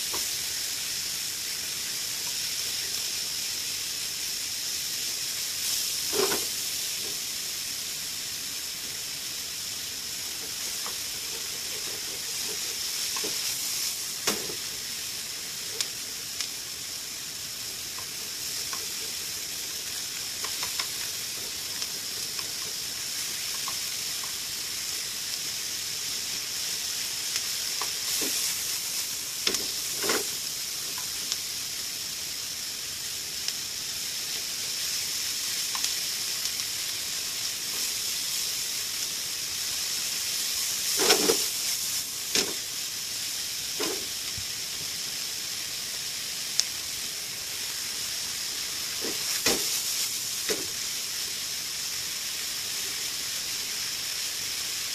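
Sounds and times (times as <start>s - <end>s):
meat sizzling in a frying pan: 0.0s - 54.9s.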